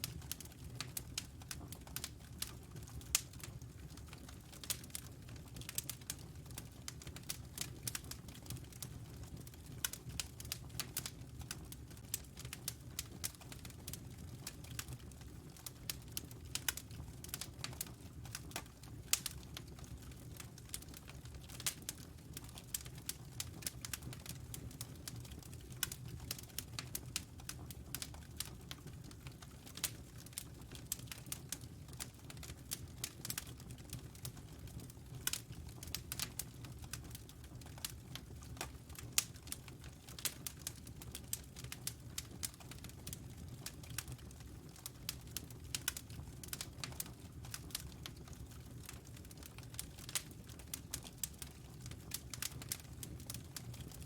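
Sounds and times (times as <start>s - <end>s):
fire pops and snaps: 0.0s - 8.9s, 9.7s - 54.0s
low rumble of burning: 0.0s - 54.0s.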